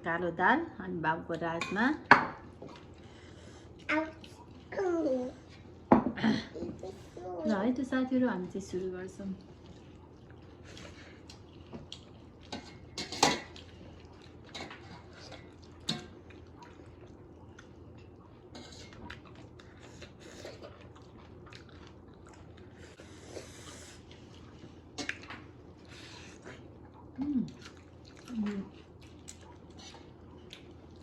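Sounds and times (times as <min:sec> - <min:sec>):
soft chewing: 0:02.4 - 0:05.9, 0:08.4 - 0:31.0.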